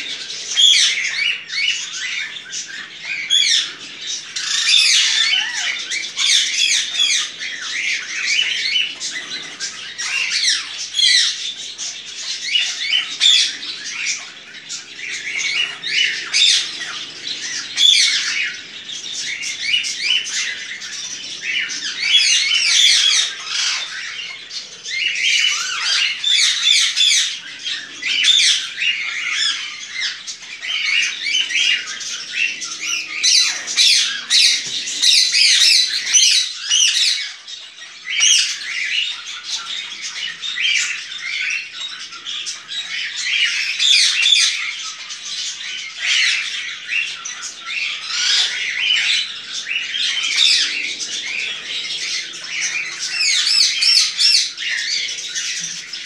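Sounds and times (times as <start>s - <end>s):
blackbirds chattering and whistling: 0.0s - 56.0s.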